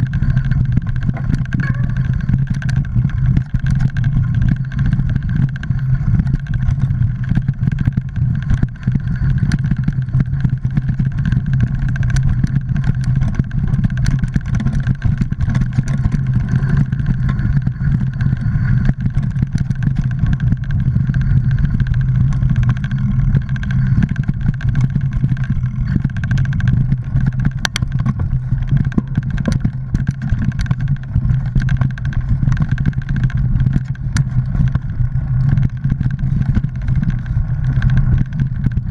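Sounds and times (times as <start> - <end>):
bike knocks and rattles: 0.0 - 38.9
bike riding hum: 0.0 - 38.9
rushing wind noise: 0.0 - 38.9.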